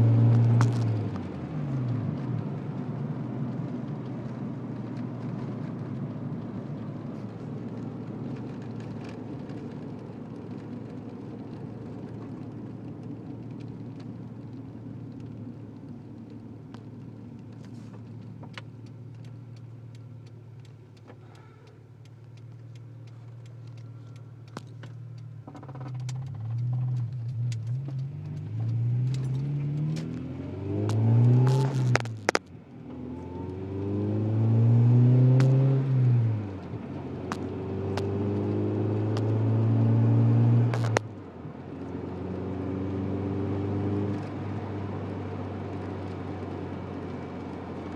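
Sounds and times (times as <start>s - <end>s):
car engine running: 0.0s - 42.6s.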